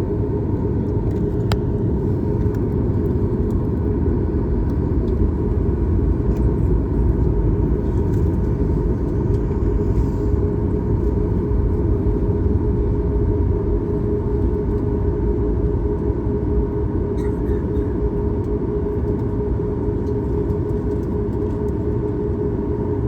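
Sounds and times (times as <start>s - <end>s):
airplane cabin rumble: 0.0s - 23.0s
steady hum: 0.0s - 23.0s.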